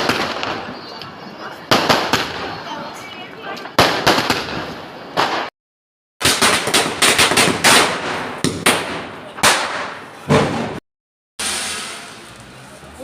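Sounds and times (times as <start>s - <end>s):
firecrackers banging: 0.0s - 5.5s, 6.2s - 10.8s, 11.4s - 13.0s.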